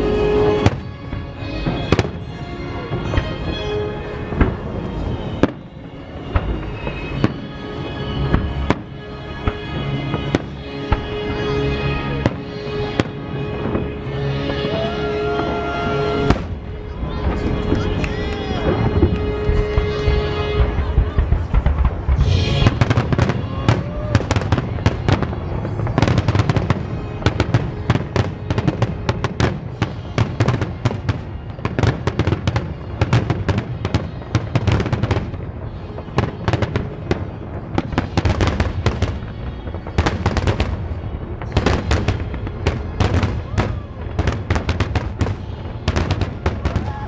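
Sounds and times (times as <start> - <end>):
fireworks bursting: 0.0 - 47.0.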